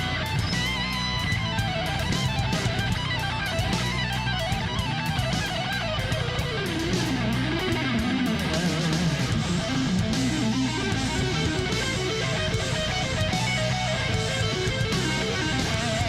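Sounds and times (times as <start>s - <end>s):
guitar music with beat: 0.0s - 16.0s.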